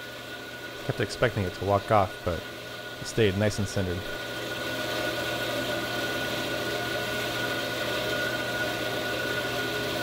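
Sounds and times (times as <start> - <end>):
band saw humming with high whine: 0.0 - 10.0.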